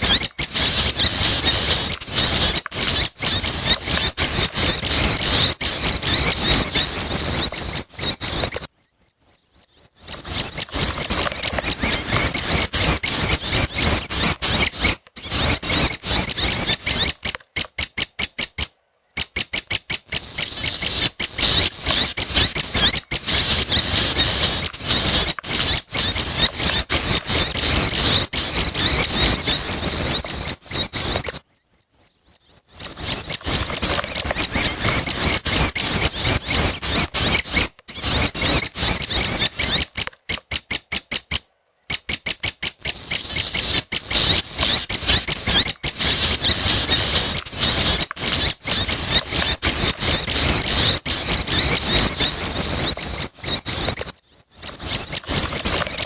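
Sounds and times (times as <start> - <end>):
fledglings chirping: 0.0 - 56.0.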